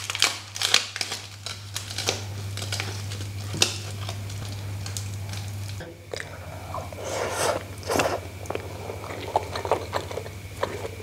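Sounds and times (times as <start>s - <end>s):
leaf wrapper crinkling: 0.0s - 11.0s
steady low hum: 0.0s - 11.0s.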